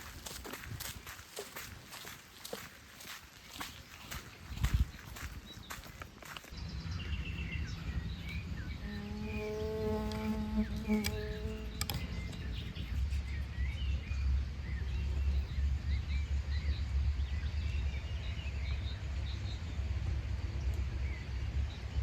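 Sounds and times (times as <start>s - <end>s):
low rumble of breeze: 0.0s - 22.0s
small birds chirping: 0.0s - 22.0s.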